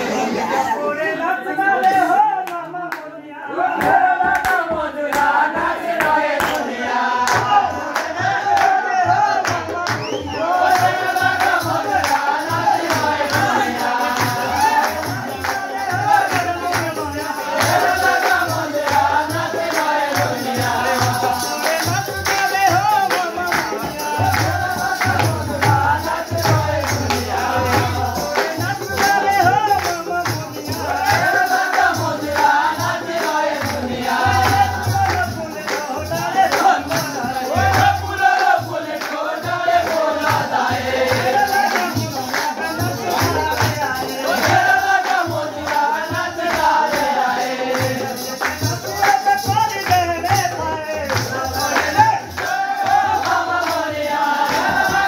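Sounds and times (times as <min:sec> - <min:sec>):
folk song singing: 0:00.0 - 0:55.0
steady percussion beat: 0:03.5 - 0:55.0.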